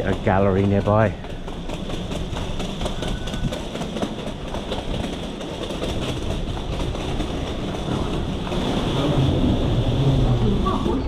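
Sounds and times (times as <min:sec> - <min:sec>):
metro train rumbling and rattling: 0:00.0 - 0:11.0.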